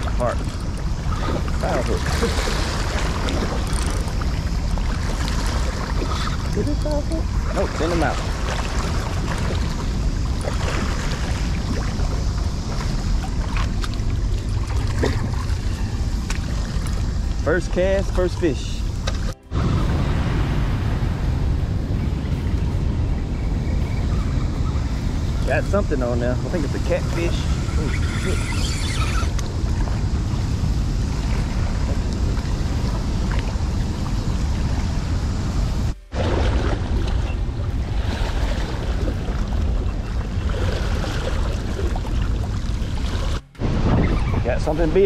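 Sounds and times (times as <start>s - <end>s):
churning water rushing: 0.0s - 45.0s
wind rumble on microphone: 0.0s - 45.0s.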